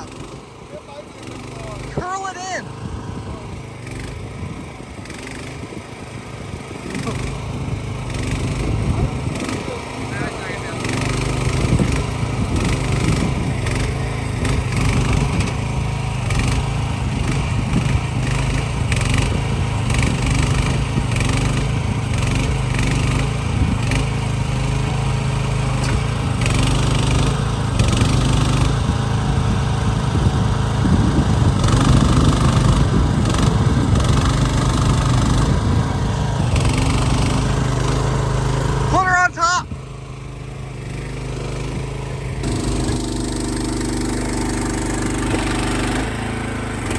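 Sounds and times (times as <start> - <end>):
small engine droning: 0.0 - 46.9.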